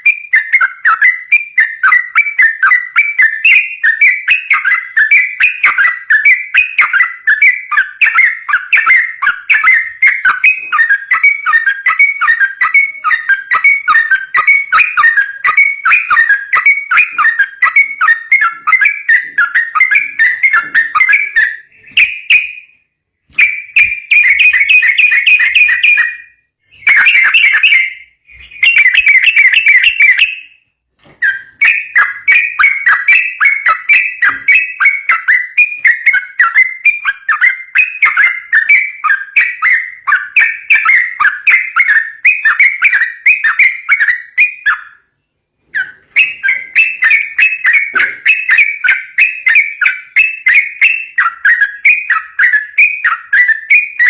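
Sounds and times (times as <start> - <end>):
bird singing bubbly whistled notes: 0.0 - 54.0.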